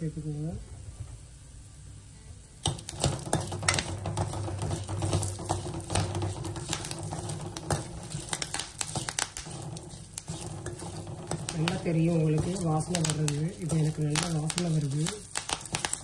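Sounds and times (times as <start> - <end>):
spices crackling and sizzling: 1.2 - 16.0
spatula scraping a pan: 2.6 - 16.0.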